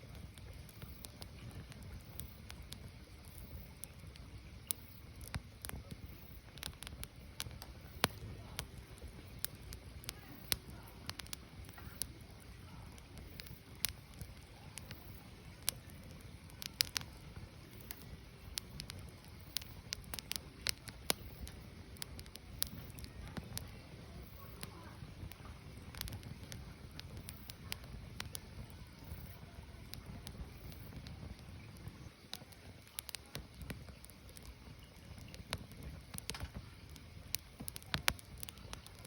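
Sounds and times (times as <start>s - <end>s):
fire crackling and popping: 0.0s - 39.0s
low rumble of fire: 0.0s - 39.0s.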